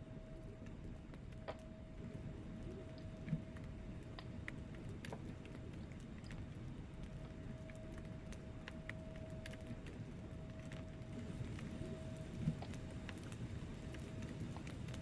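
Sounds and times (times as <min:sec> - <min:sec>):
faint thin steady tone: 0:00.0 - 0:04.5, 0:05.7 - 0:15.0
low rumble of flames: 0:00.0 - 0:15.0
fire crackling and popping: 0:00.4 - 0:15.0.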